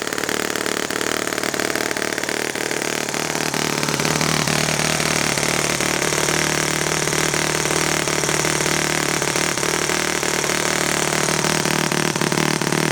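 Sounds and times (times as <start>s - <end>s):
model airplane engine running: 0.0s - 12.9s.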